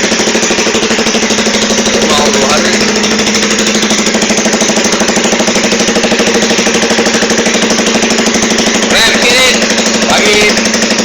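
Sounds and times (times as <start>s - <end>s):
motorcycle idling: 0.0s - 11.0s.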